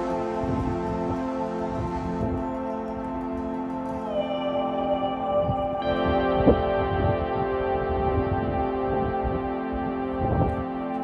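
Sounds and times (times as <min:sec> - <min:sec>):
ambient music with held tones: 0:00.0 - 0:11.0.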